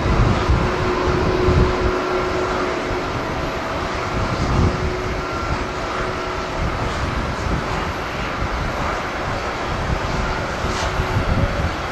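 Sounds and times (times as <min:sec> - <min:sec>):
jet engine rushing: 0:00.0 - 0:11.9
wind buffeting microphone: 0:00.0 - 0:11.9.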